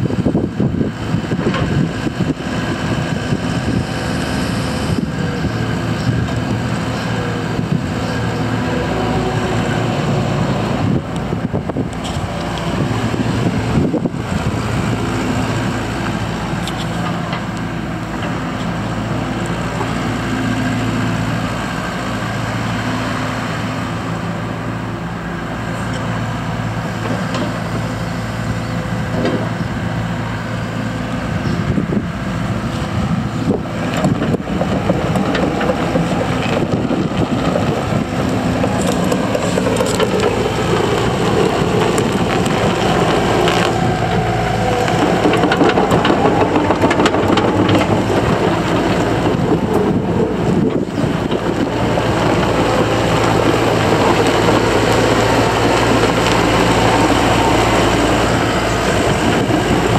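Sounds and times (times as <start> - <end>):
excavator diesel engine running: 0.0 - 59.9
tracks clanking over gravel: 0.0 - 59.9.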